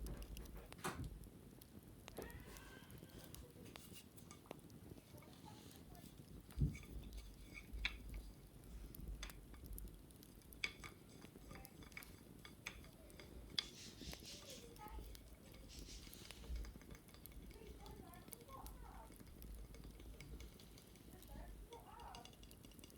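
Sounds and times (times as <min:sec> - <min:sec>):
wicker baskets tapping and clicking: 0:00.0 - 0:01.3, 0:02.1 - 0:22.9.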